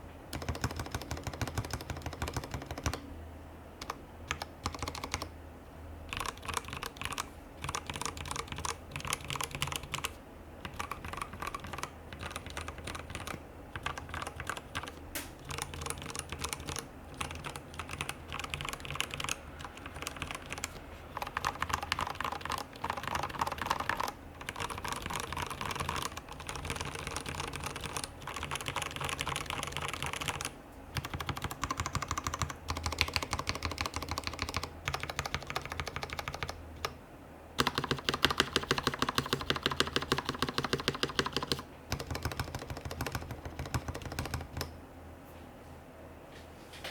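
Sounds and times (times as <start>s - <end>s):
mechanical keyboard typing: 0.3s - 3.0s, 3.8s - 5.3s, 6.1s - 37.0s, 37.6s - 44.7s.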